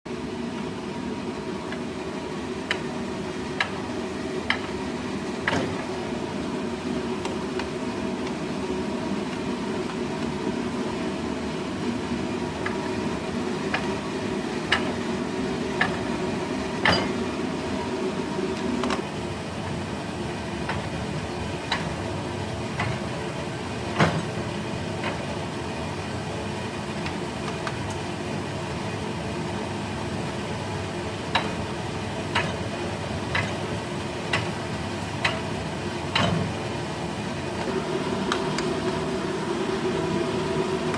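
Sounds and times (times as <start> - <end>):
steady mechanical hum: 0.1 - 40.9.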